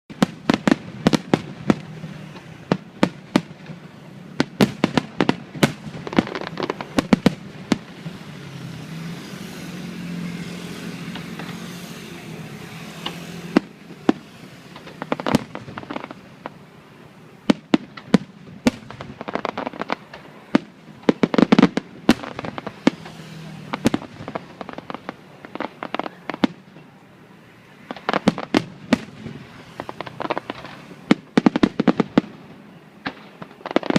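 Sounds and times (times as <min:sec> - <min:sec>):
fireworks bursting: 0:00.1 - 0:33.9
steady rushing noise: 0:00.3 - 0:33.9.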